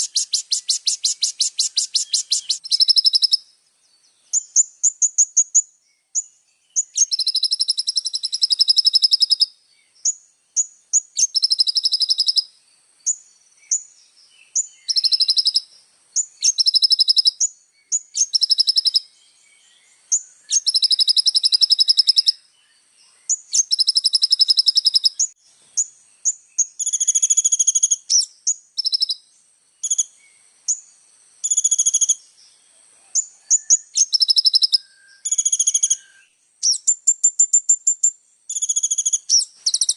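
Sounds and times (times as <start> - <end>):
sunbird singing trills: 0.0 - 39.9.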